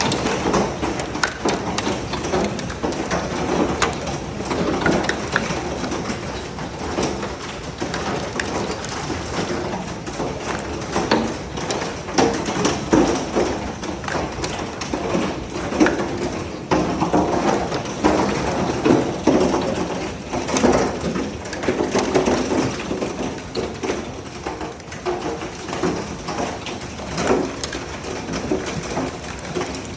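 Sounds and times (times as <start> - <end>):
hailstones clattering: 0.0 - 29.9.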